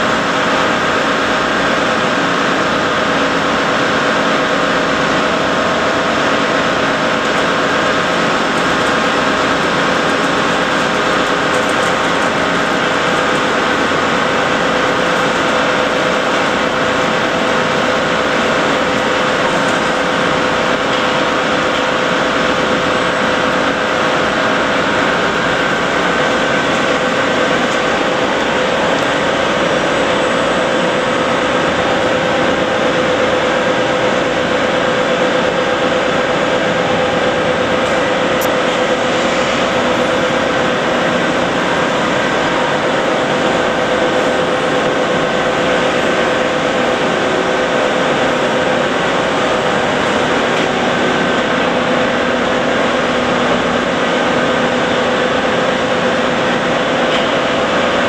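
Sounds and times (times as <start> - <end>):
industrial machinery drone: 0.0 - 58.0
steady humming tones: 0.0 - 58.0.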